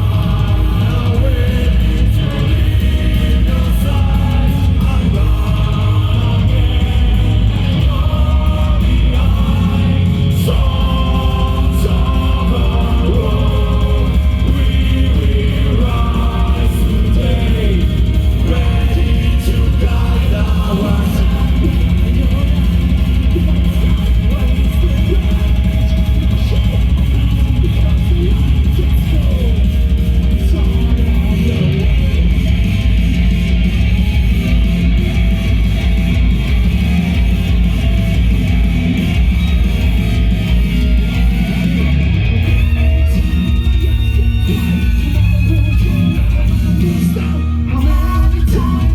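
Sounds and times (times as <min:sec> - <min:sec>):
distorted electric guitars: 0:00.0 - 0:48.9
heavy metal band playing live: 0:00.0 - 0:48.9
singer holding long notes: 0:00.0 - 0:48.9.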